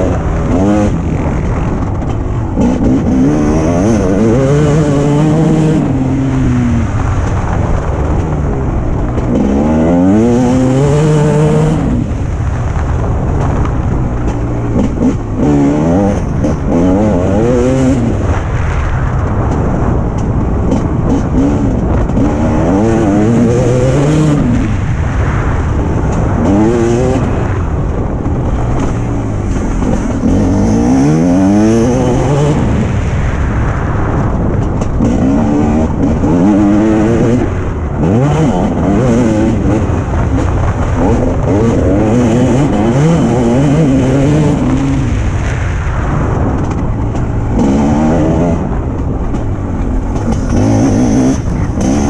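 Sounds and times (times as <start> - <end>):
motorbike engine revving: 0.0 - 52.0
wind on microphone: 0.0 - 52.0.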